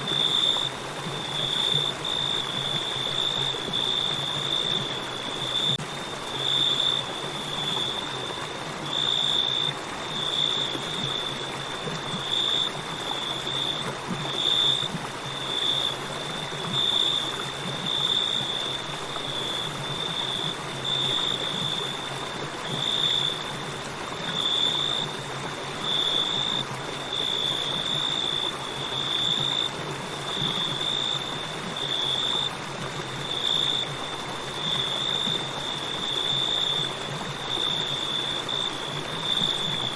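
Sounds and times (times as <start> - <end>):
crickets trilling: 0.0 - 23.6, 24.2 - 39.9
river water flowing: 0.0 - 39.9.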